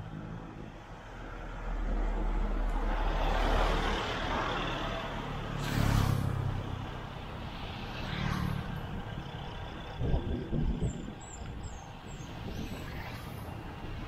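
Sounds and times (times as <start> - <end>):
vehicles passing: 0.0 - 14.0.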